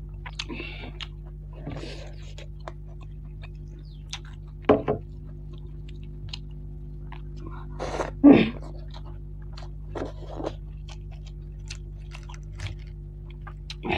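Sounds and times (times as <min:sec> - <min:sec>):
steady low hum: 0:00.0 - 0:13.9
chewing with wet mouth clicks: 0:00.2 - 0:01.4, 0:02.1 - 0:07.6, 0:08.6 - 0:13.9.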